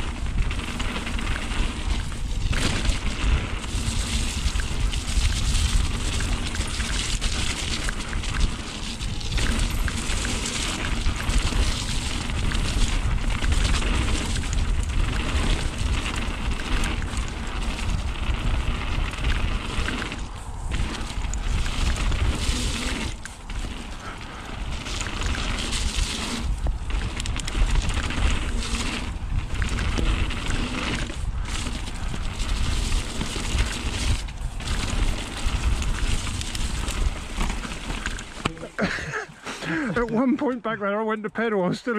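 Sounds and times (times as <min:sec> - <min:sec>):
wind buffeting microphone: 0:00.0 - 0:40.1
bike knocking and rattling: 0:00.0 - 0:40.3
tyres rushing over dirt: 0:00.0 - 0:40.5.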